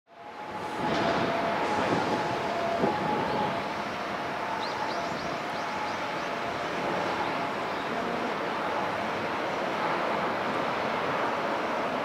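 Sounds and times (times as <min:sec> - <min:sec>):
outdoor hiss and rumble: 0:00.1 - 0:12.0.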